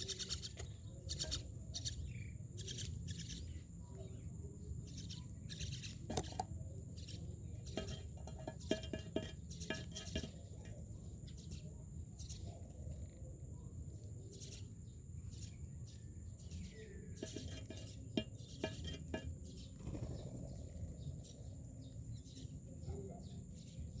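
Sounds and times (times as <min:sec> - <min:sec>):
birds chirping and clicking: 0:00.0 - 0:24.0.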